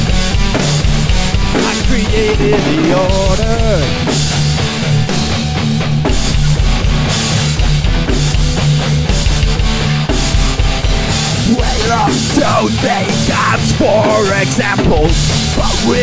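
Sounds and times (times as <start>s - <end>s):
bass and guitar: 0.0s - 16.0s
drum kit steady beat: 0.0s - 16.0s.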